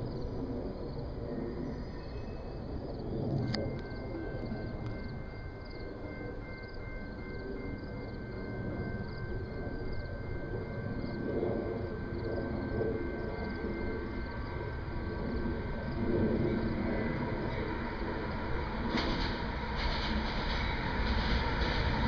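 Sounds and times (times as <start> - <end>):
diesel locomotive engines rumbling: 0.0 - 22.0.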